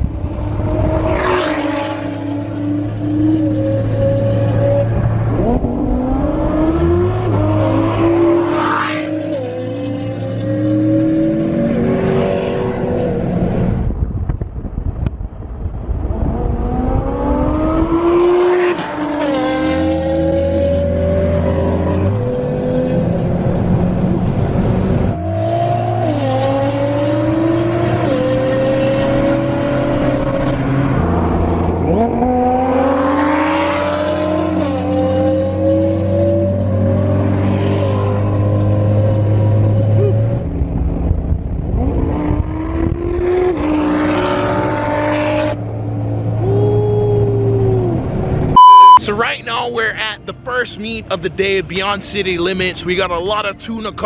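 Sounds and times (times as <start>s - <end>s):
car engine accelerating and shifting: 0.0s - 49.0s.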